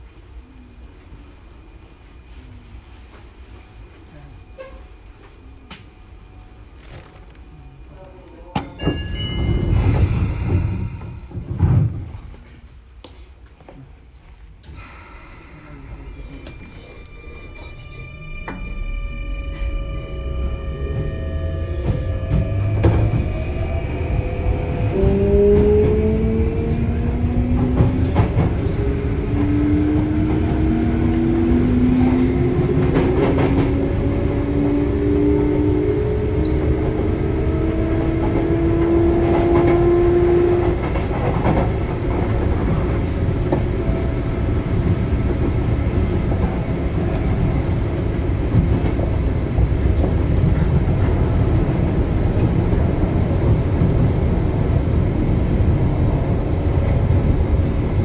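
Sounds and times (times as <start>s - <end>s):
low train rumble: 0.0s - 58.0s.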